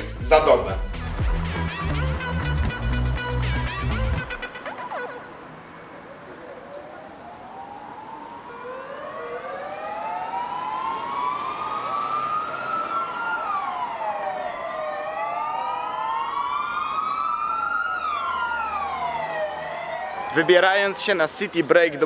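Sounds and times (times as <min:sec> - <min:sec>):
emergency vehicle sirens wailing: 0:01.5 - 0:22.0.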